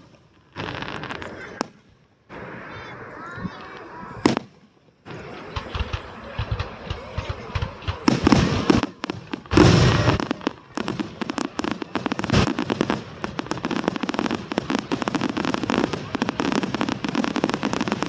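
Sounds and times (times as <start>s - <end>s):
fireworks crackling pops: 0.0s - 2.7s, 3.4s - 18.0s
fireworks booms: 0.0s - 2.8s, 3.5s - 18.0s.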